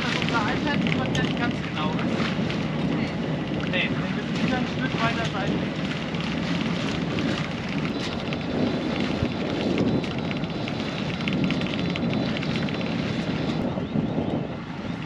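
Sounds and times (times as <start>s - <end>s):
boat engine running: 0.0s - 15.0s
wind rumbling on microphone: 0.0s - 15.0s.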